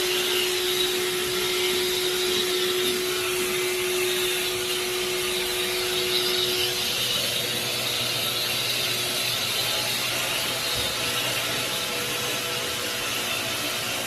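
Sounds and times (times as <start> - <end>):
cleaning machine running: 0.0 - 14.0.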